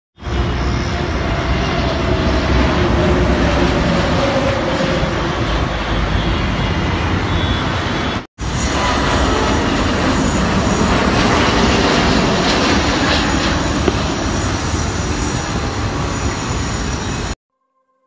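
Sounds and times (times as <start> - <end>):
street traffic: 0.2 - 11.2, 12.0 - 17.4
jet airliner passing overhead: 0.2 - 17.4.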